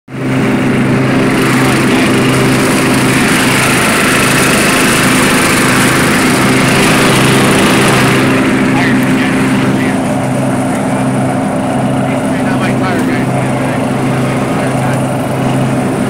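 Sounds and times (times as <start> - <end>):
riding mower running: 0.1 - 16.0.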